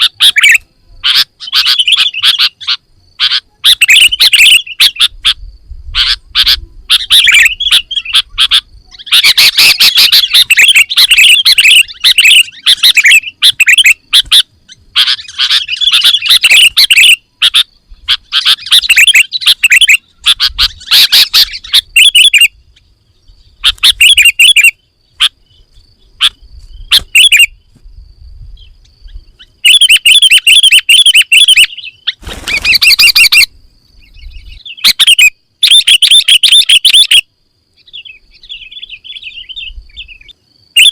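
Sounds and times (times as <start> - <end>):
bulbul singing rapid chirps: 0.0 - 5.4, 6.0 - 27.6, 28.6 - 33.5, 34.1 - 37.2.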